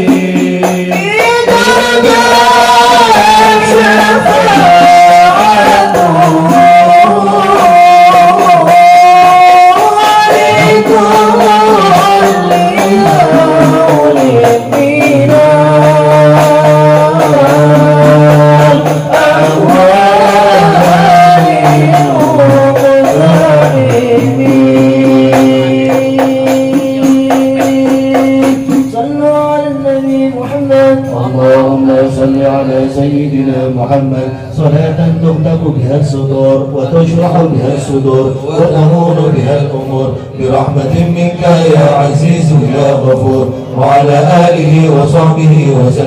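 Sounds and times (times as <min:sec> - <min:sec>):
men singing a hymn together: 0:00.0 - 0:46.0.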